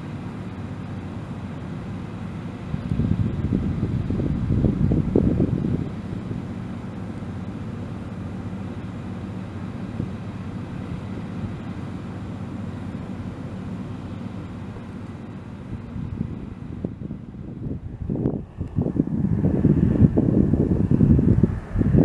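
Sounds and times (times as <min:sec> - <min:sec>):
jet aircraft taxiing rumble: 0:00.0 - 0:22.0.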